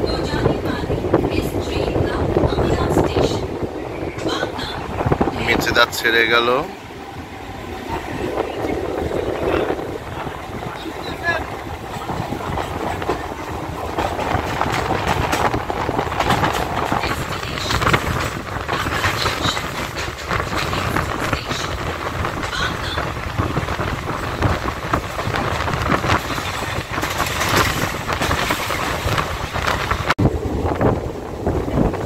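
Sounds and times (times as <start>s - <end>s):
train wheels rumbling and rattling: 0.0s - 32.0s
wheels clacking over rail joints: 0.0s - 32.0s.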